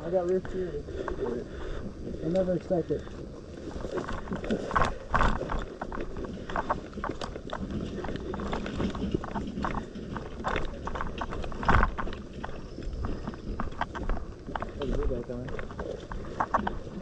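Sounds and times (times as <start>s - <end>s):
footsteps on path: 0.0s - 17.0s.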